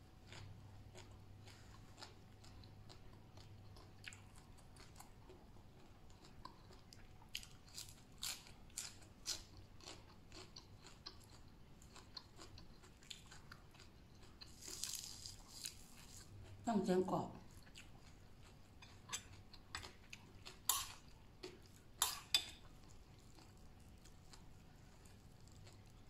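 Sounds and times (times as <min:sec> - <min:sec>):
crunchy food chewing: 0:00.1 - 0:16.6, 0:17.4 - 0:26.0.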